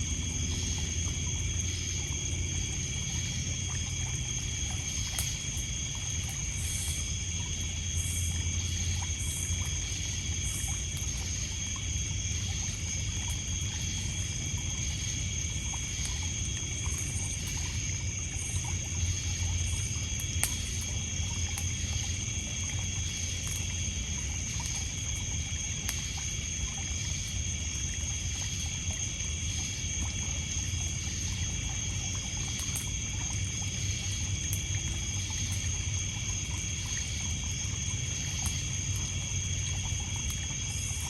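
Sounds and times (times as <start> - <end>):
crickets trilling: 0.0 - 41.0
pulsing high insect call: 0.0 - 41.0
wood fire crackles: 0.0 - 41.0.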